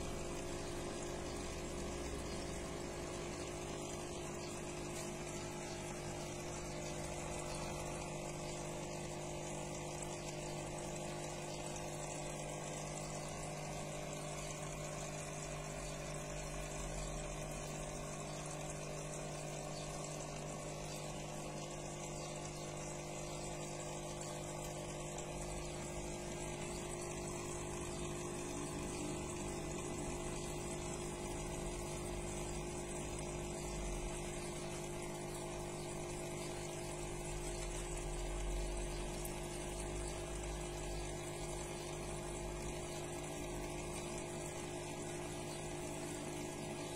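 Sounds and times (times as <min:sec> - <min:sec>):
aquarium pump humming: 0:00.0 - 0:46.9.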